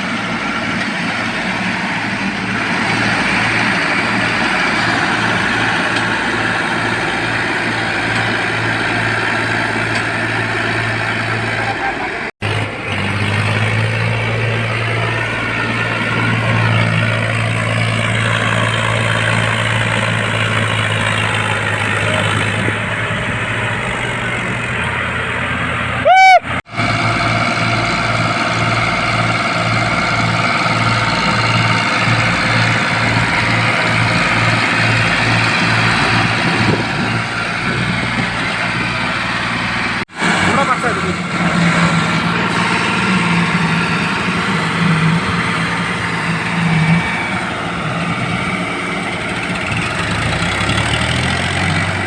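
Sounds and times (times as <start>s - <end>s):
tractor engines under load: 0.0s - 52.0s.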